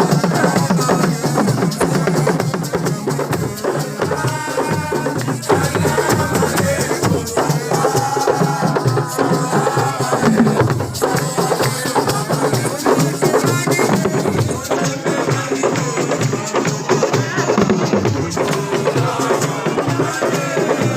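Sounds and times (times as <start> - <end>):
drum-led percussion music: 0.0 - 20.9
voices singing: 0.0 - 20.9.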